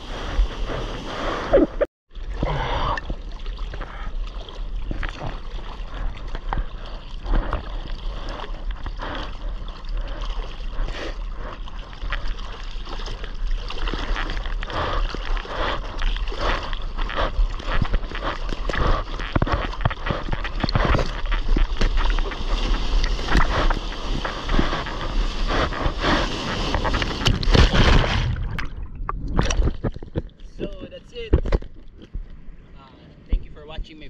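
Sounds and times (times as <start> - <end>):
sea water splashing: 0.0 - 30.4.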